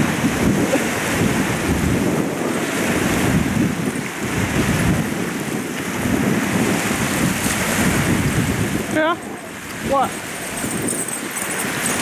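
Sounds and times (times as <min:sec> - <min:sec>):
small waves washing onto shore: 0:00.0 - 0:12.0
wind buffeting microphone: 0:00.0 - 0:12.0.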